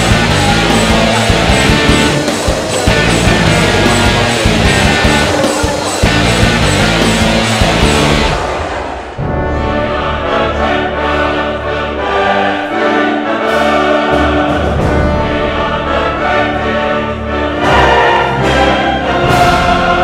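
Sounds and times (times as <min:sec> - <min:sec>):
choir singing held notes: 0:00.0 - 0:20.0
orchestral music: 0:00.0 - 0:20.0.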